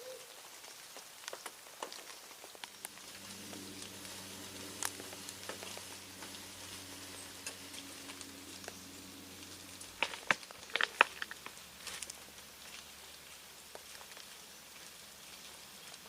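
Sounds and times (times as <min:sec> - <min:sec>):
raindrops pattering: 0:00.0 - 0:16.0
faint low hum: 0:02.7 - 0:16.0.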